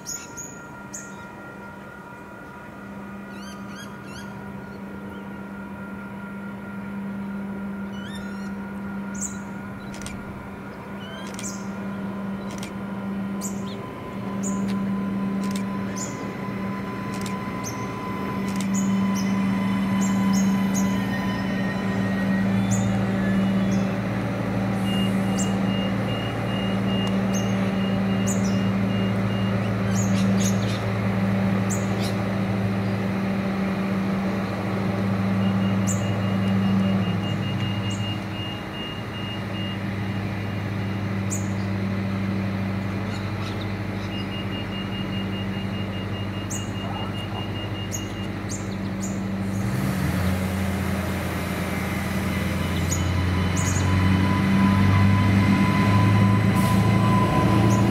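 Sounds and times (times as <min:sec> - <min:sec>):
diesel railcar engine idling: 0:00.0 - 0:57.9.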